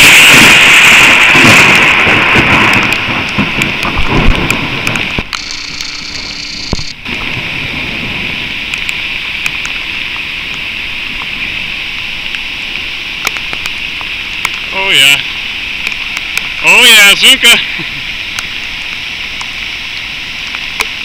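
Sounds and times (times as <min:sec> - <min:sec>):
heavy rain and runoff rushing: 0:00.0 - 0:21.0.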